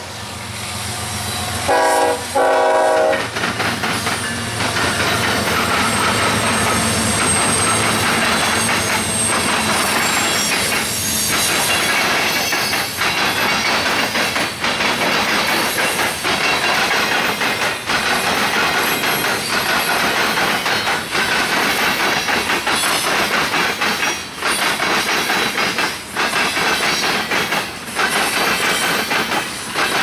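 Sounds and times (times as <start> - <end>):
train rumble and hiss: 0.0 - 30.0
train wheels clicking over rail joints: 0.0 - 30.0.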